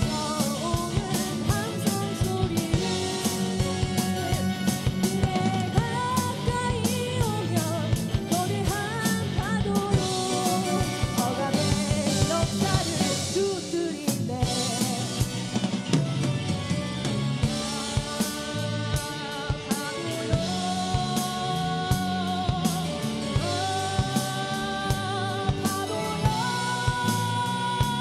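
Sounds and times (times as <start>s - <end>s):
women singing: 0.0s - 15.3s, 17.4s - 28.0s
drum kit with cymbals: 0.0s - 28.0s
electric guitar: 0.0s - 28.0s.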